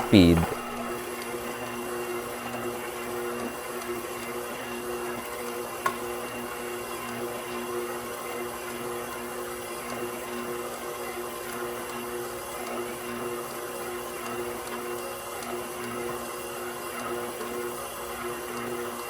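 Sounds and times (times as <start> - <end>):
stand mixer motor humming: 0.6 - 19.0.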